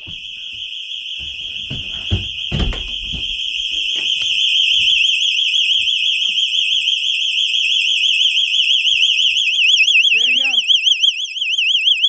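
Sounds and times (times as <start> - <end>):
warbling alarm siren: 0.0 - 12.0.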